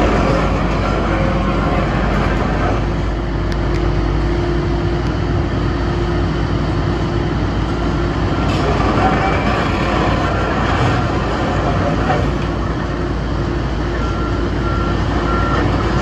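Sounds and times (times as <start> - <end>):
steady whine: 0.0 - 15.6
diesel engines running: 0.0 - 16.0
steel tracks clanking and grinding: 0.0 - 16.0.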